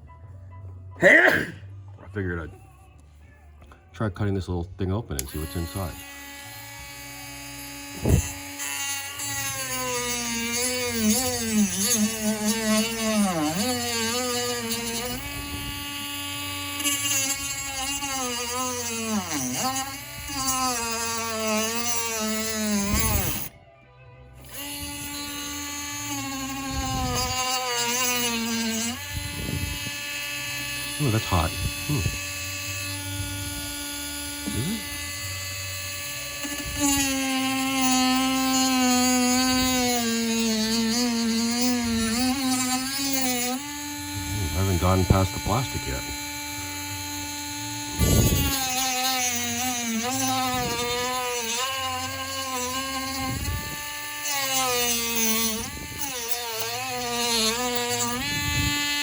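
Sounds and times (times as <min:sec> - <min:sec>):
rotary tool whining: 0:05.1 - 0:23.6, 0:24.2 - 0:59.0.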